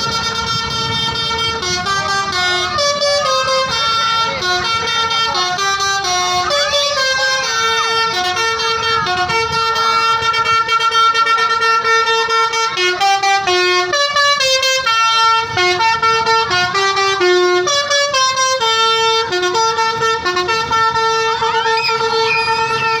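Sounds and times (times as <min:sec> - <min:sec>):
bus multi-tone horn melody: 0:00.0 - 0:23.0.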